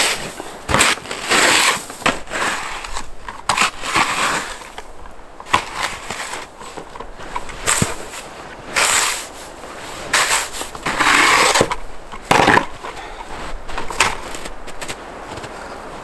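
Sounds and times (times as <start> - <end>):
scraping strokes on wood: 0.0 - 4.9, 5.5 - 15.5.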